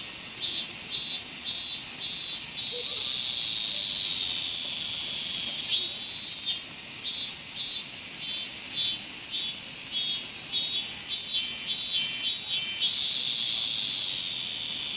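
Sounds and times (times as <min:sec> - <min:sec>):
cicada pulsing call: 0:00.0 - 0:14.9.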